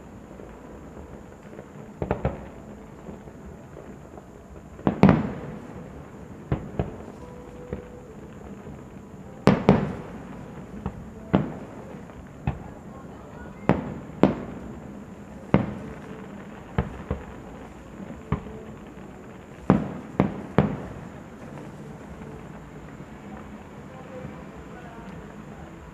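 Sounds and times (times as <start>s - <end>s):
fireworks bangs: 0.0s - 25.9s.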